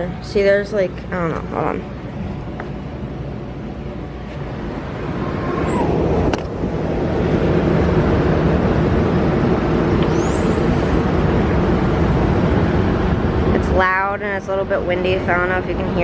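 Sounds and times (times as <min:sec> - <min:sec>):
street traffic: 0:00.0 - 0:16.0
wind buffeting microphone: 0:00.0 - 0:16.0.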